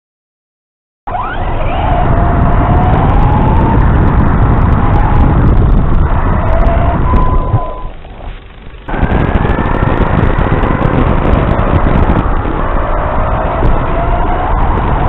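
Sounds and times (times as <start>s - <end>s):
wheels rumbling on rough ground: 1.1s - 15.0s.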